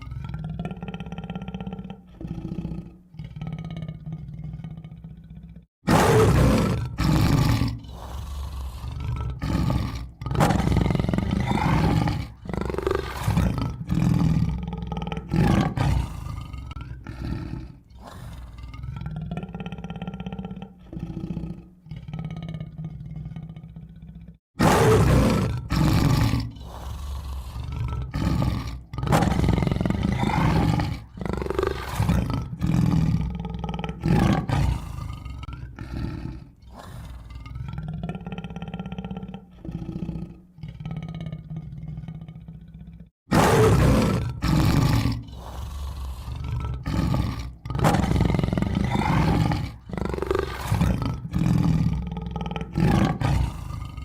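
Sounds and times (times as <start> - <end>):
tiger roaring and growling: 0.0 - 54.0.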